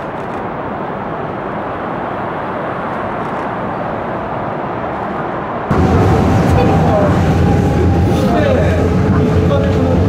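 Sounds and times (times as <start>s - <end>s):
distant jet engines rushing: 0.0s - 10.0s.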